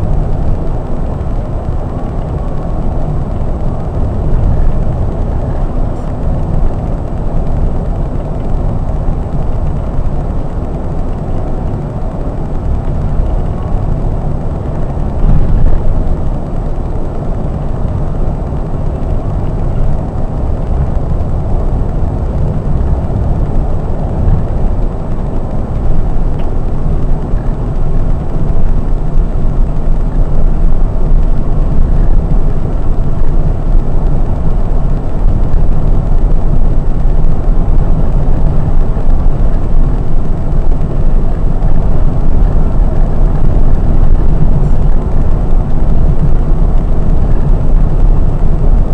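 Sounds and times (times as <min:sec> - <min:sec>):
low engine drone: 0:00.0 - 0:48.9
road noise: 0:00.0 - 0:48.9.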